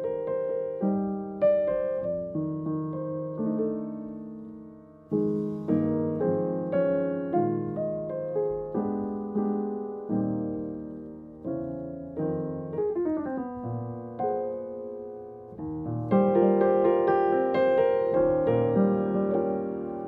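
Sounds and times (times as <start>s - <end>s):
jazz piano: 0.0s - 20.0s.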